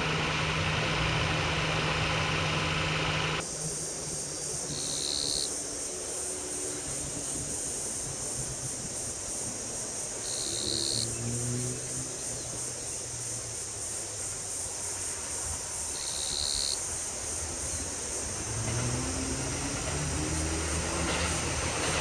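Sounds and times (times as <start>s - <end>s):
cicadas chirring: 0.0s - 22.0s
distant train rumble: 0.0s - 22.0s.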